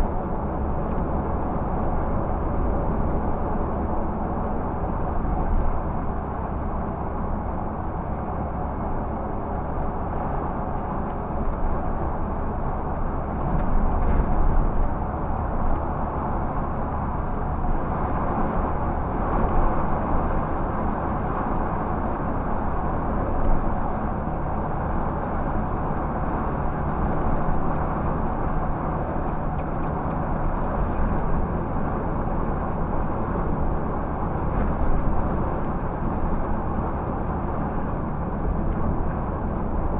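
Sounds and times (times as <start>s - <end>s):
bus diesel engine humming: 0.0s - 39.9s
road and tyre noise: 0.0s - 39.9s.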